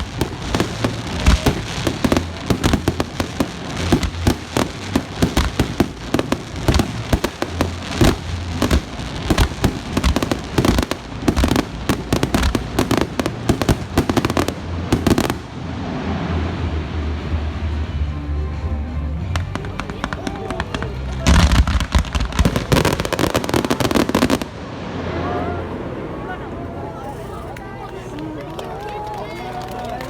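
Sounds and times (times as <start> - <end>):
fireworks bangs and crackles: 0.0 - 18.0, 19.2 - 26.2
steady background noise: 0.0 - 30.0.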